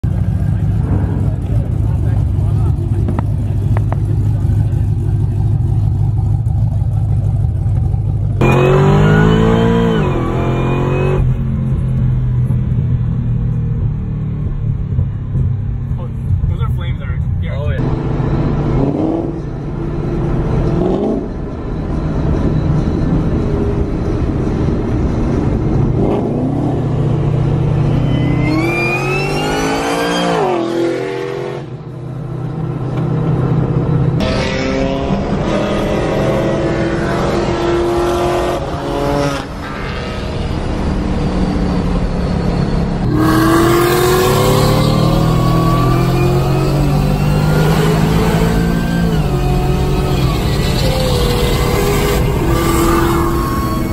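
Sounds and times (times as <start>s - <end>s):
car engine accelerating hard: 0.0s - 13.1s, 17.8s - 53.9s.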